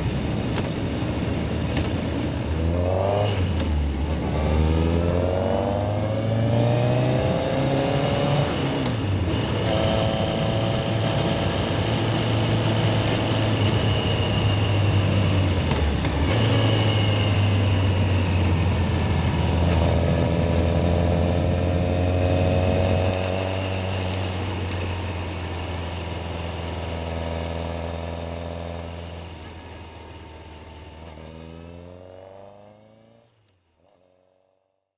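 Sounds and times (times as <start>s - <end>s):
motorcycle engine revving: 0.0s - 34.6s.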